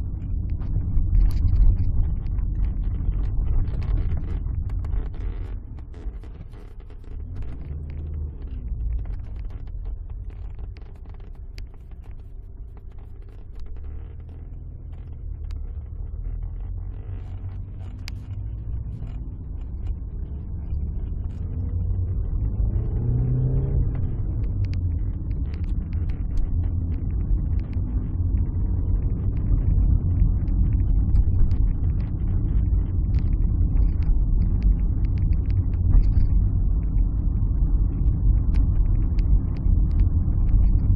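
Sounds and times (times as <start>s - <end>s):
car engine accelerating: 0.0s - 40.9s
road rumble: 0.0s - 40.9s.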